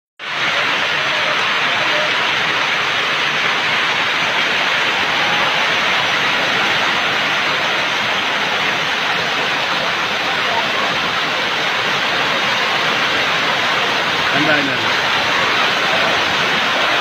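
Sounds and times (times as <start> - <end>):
heavy rain on a street: 0.2 - 17.0.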